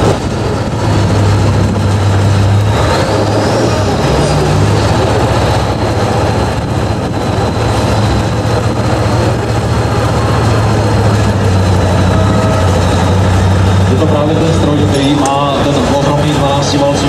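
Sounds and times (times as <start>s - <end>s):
diesel engine droning at low revs: 0.0s - 17.0s.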